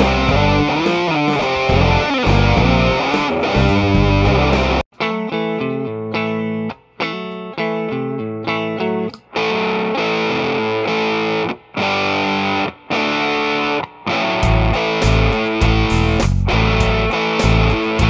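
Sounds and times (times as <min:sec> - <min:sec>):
fuzz electric guitar riff: 0:00.0 - 0:18.0.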